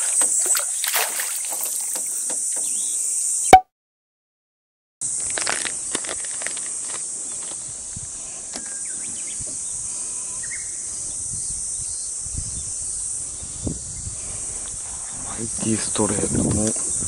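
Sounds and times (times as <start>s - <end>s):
high-pitched insect chorus: 0.0s - 3.5s, 5.0s - 17.0s.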